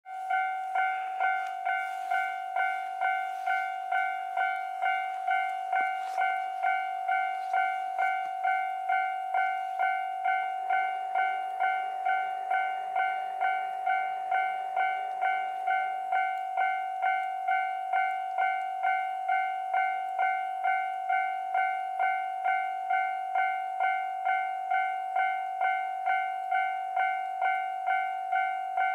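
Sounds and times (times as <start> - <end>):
railroad crossing bell dinging: 0.0 - 28.9.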